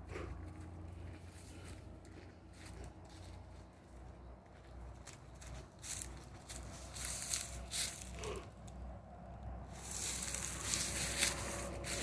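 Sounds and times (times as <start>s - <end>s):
footsteps crunching through dry leaves: 0.2s - 8.4s, 9.6s - 12.0s.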